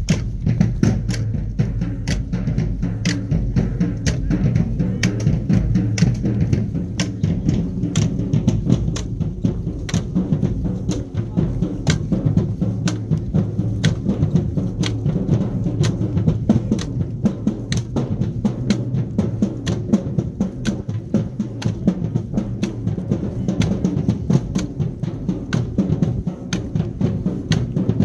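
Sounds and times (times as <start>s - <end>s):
marching drumline playing: 0.0s - 28.0s.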